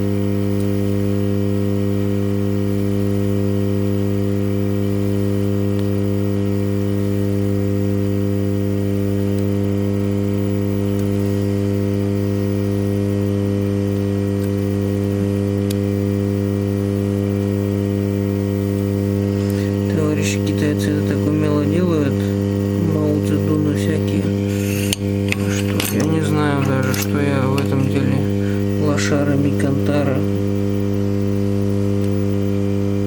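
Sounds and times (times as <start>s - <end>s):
hot-air station electrical hum: 0.0s - 33.0s.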